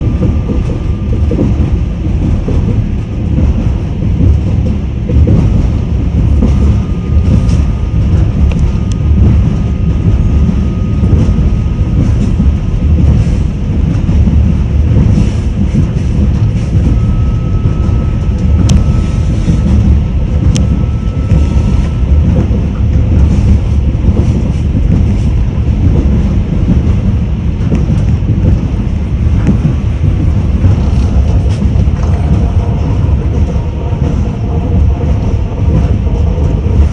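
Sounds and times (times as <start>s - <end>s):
train rumbling: 0.0s - 36.9s
train wheels clattering on track: 0.0s - 36.9s.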